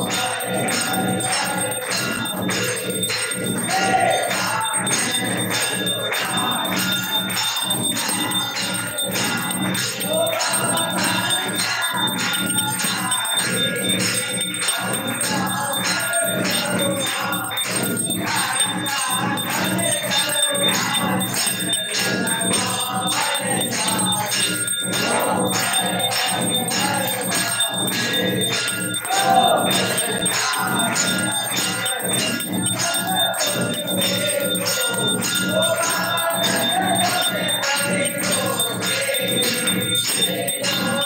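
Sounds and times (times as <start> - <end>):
bells rung rapidly: 0.0 - 41.0
music: 0.0 - 41.0.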